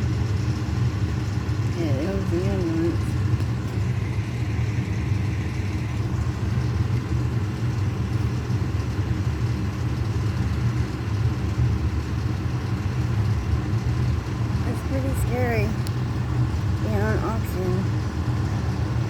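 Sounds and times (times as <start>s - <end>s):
fire truck engine idling: 0.0s - 19.0s.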